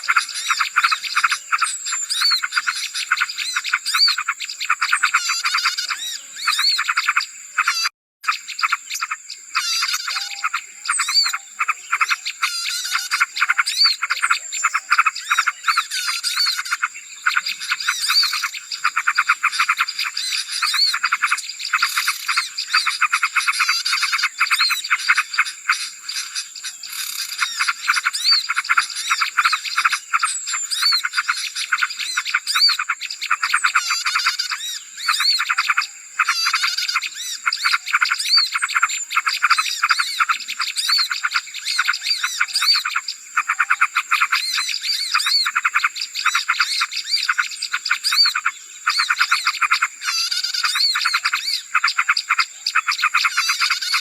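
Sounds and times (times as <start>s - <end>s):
small birds chirping and chattering: 0.0s - 54.0s.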